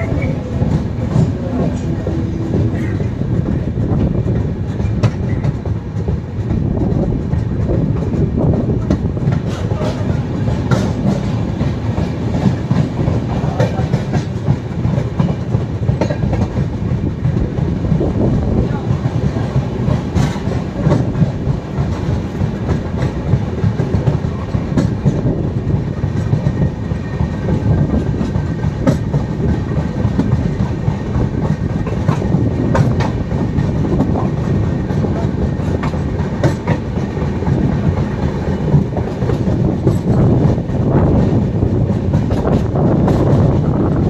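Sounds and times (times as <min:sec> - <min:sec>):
wheels clacking over rail joints: 0:00.0 - 0:43.8
train wheels rumbling: 0:00.0 - 0:44.0.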